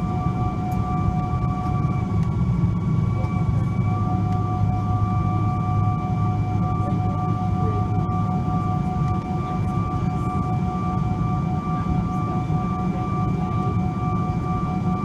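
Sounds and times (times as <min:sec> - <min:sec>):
aircraft cabin engine whine: 0:00.0 - 0:15.0
low cabin rumble: 0:00.0 - 0:15.0.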